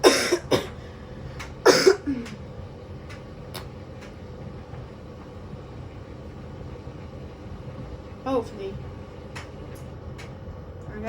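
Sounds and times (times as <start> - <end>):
washing machine running: 0.0 - 11.0.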